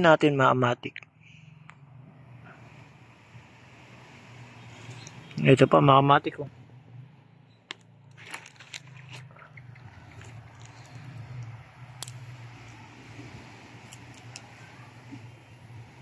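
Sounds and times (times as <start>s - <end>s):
steady low hum: 1.0s - 16.0s.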